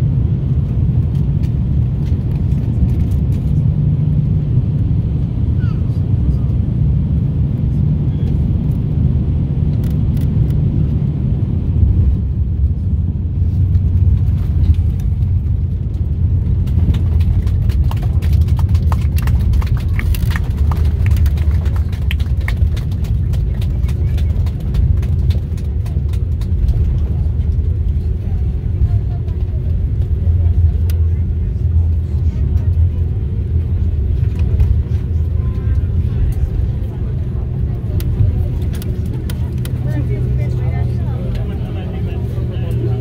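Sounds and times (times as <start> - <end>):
airliner engines rumbling: 0.0 - 43.0.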